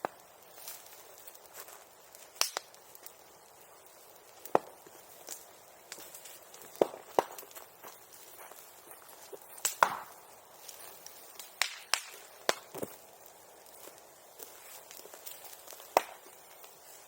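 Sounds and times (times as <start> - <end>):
bamboo popping in fire: 0.0 - 17.0
bonfire crackling: 0.0 - 17.0.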